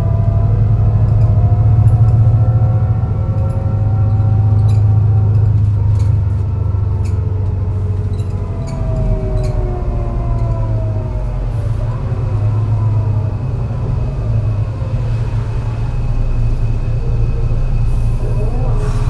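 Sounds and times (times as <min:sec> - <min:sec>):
gearbox whine: 0:00.0 - 0:19.0.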